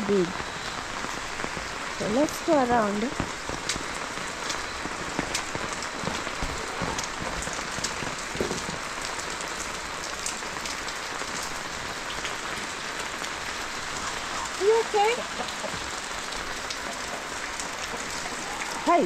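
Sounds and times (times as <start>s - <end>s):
raindrops ticking on surfaces: 0.0s - 19.0s
steady rain falling: 0.0s - 19.0s.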